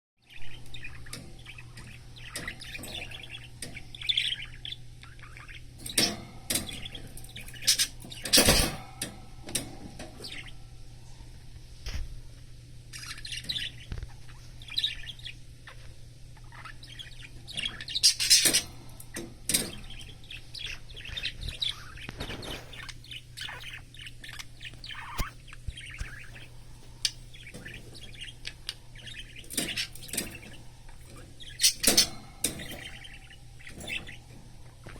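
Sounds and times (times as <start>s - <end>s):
budgerigar chirping and chattering: 0.4s - 8.9s, 12.9s - 34.9s.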